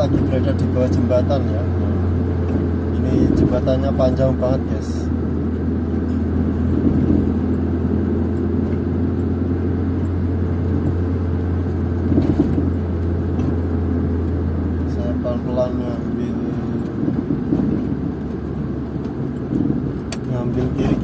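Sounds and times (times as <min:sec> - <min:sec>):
car engine and tyres drone: 0:00.0 - 0:21.0.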